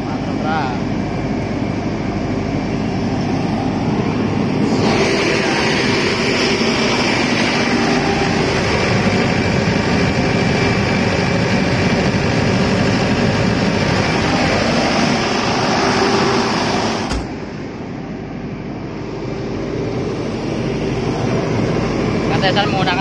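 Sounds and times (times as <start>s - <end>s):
diesel generator running: 0.0s - 23.0s.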